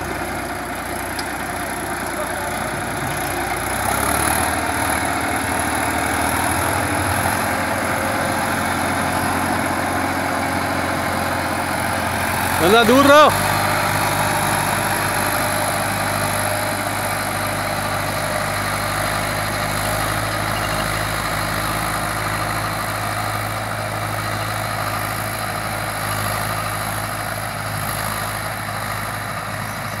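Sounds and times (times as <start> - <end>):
tractor engine droning: 0.0 - 30.0.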